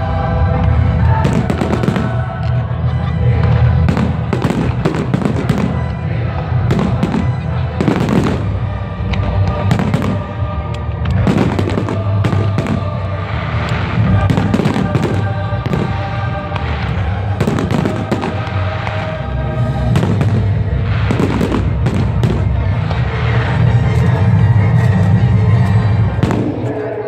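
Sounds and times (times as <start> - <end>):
loud music with sustained tones: 0.0 - 27.0
fireworks banging and crackling: 1.1 - 2.7, 3.3 - 27.0.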